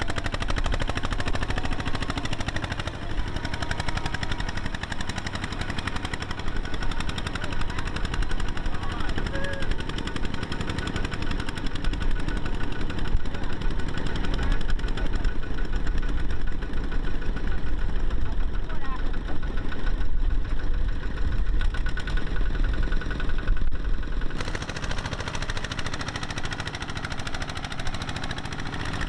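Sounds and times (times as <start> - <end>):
diesel tractor engine chugging: 0.0 - 29.0
tractor driving through water and mud: 0.0 - 29.0.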